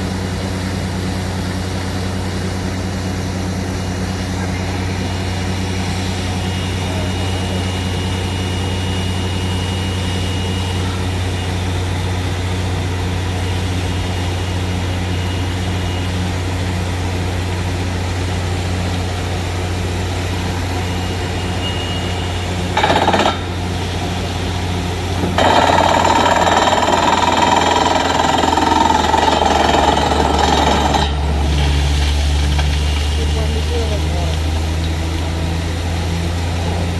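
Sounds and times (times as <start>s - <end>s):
drilling rig engine droning: 0.0s - 36.9s.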